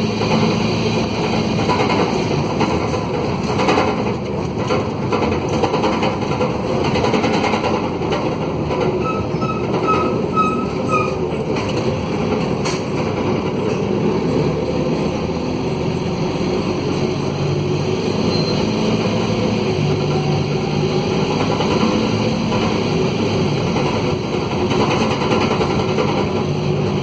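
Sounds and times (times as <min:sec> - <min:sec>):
raspy diesel bus engine: 0:00.0 - 0:27.0
road noise: 0:00.0 - 0:27.0.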